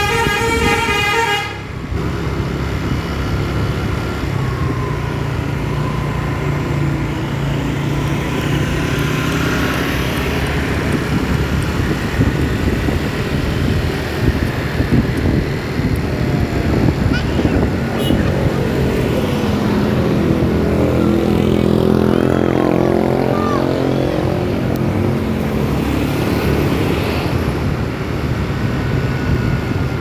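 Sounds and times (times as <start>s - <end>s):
road and wind noise: 0.0s - 30.0s
vehicle engine hum: 0.0s - 30.0s.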